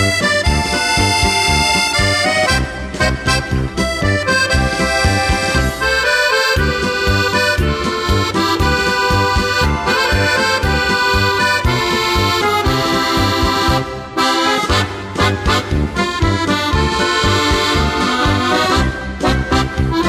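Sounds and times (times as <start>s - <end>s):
accordion folk music: 0.0s - 20.0s.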